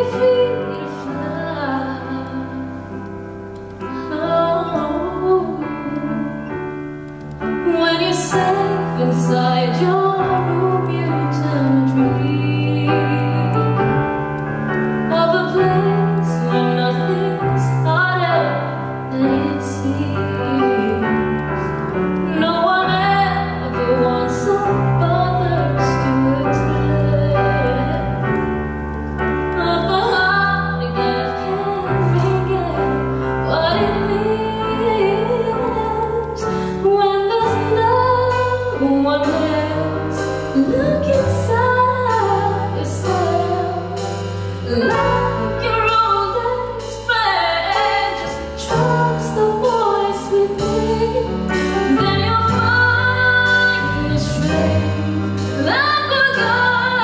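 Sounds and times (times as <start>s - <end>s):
woman singing: 0.0s - 3.1s, 3.8s - 6.6s, 7.5s - 14.1s, 15.1s - 28.5s, 29.5s - 57.0s
held bass notes: 0.0s - 57.0s
keyboard chords: 0.0s - 57.0s.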